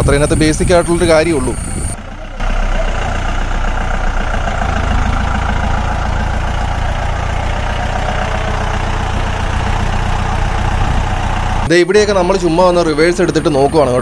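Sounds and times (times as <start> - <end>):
jeep engine idling: 0.0 - 14.0.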